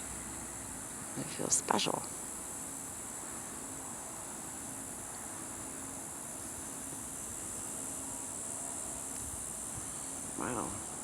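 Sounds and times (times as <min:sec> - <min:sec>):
crickets chirping: 0:00.0 - 0:11.0
faint background hiss: 0:00.0 - 0:11.0.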